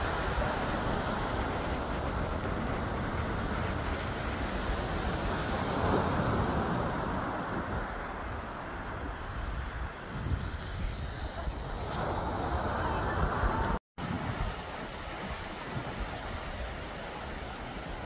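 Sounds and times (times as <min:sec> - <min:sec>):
surf waves breaking on sand: 0:00.0 - 0:18.0
wind buffeting microphone: 0:00.0 - 0:18.0.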